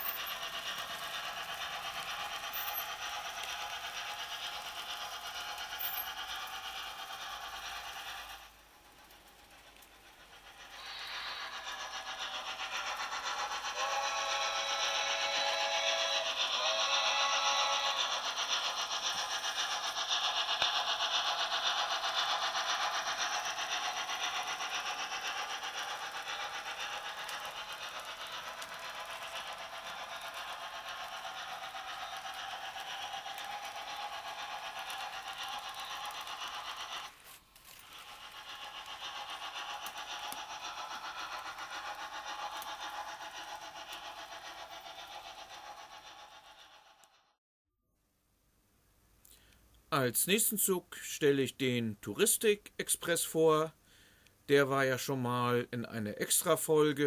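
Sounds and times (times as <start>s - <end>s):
model train running on track: 0.0s - 47.4s, 48.7s - 57.0s.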